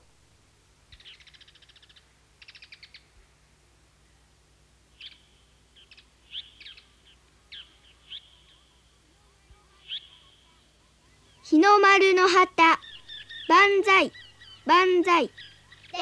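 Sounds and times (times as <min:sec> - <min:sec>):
faint birdsong trills and chirps: 0:00.8 - 0:16.0.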